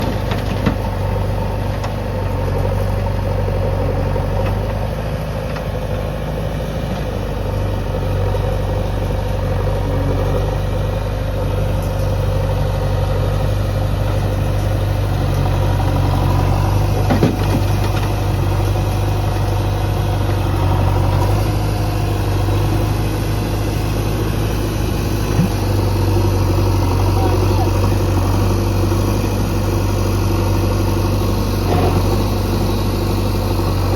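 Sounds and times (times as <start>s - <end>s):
heavy diesel engine idling: 0.0s - 33.9s.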